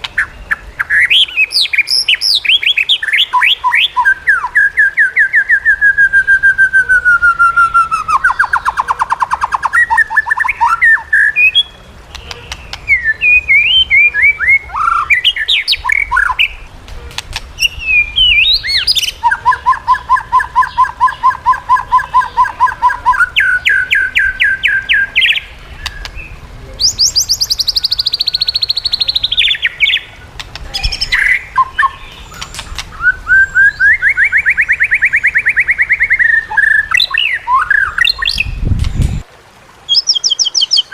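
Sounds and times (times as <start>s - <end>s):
bird singing whistles and trills: 0.1s - 16.7s, 17.6s - 39.2s, 39.9s - 40.9s.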